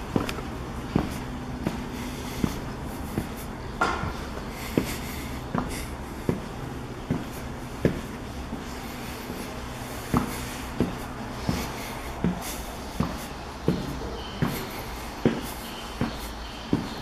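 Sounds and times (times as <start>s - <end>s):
footsteps going down stairs: 0.0s - 17.0s
steady low hum: 0.0s - 17.0s.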